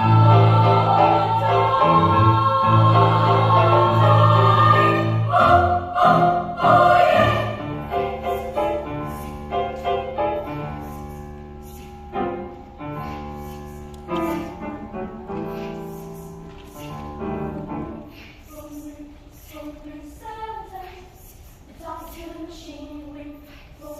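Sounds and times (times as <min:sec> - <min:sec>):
children's choir singing: 0:00.0 - 0:10.6, 0:13.8 - 0:23.9.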